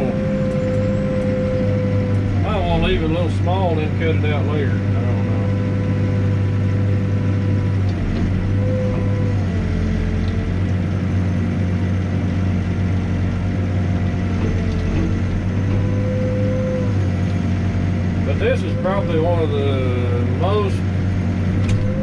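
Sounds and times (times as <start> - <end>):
hydraulic whine: 0.0 - 12.7, 14.0 - 22.0
diesel engine running: 0.0 - 22.0.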